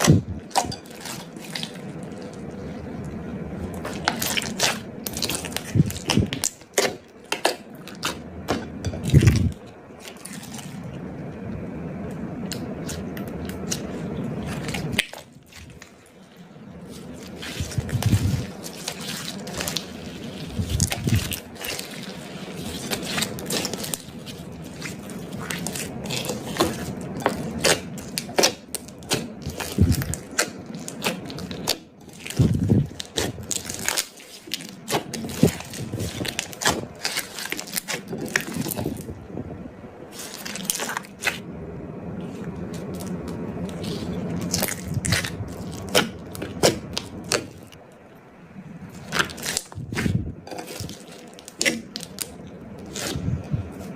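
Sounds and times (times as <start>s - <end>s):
slime squishing by hand: 0.0s - 11.0s, 12.4s - 39.2s, 40.1s - 41.4s, 42.2s - 47.9s, 48.8s - 53.9s.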